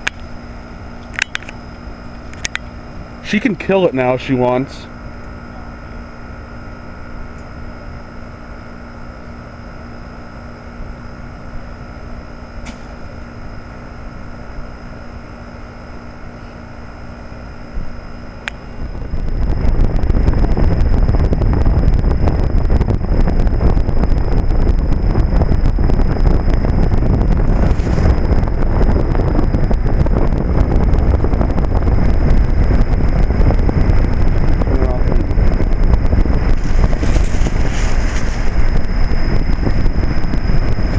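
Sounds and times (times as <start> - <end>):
heat pump compressor and fan hum: 0.0 - 40.9
wind rumbling on microphone: 0.0 - 40.9.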